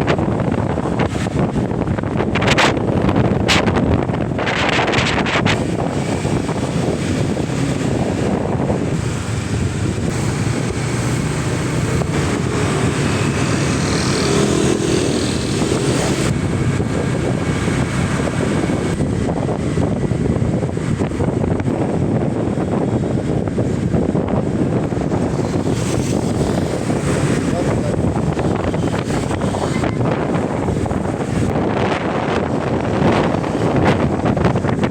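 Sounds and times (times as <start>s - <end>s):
wind noise on microphone: 0.0s - 34.9s.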